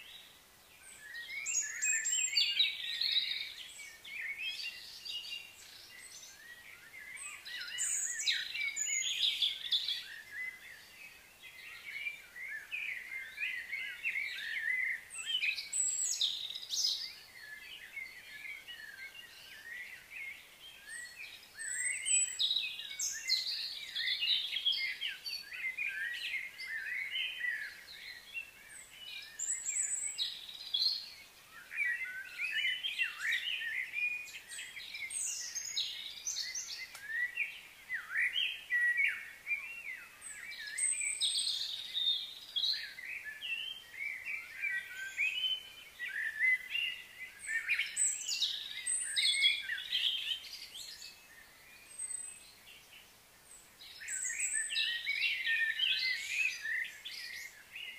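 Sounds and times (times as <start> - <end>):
birds chirping and calling: 0.0 - 53.1, 53.8 - 57.9.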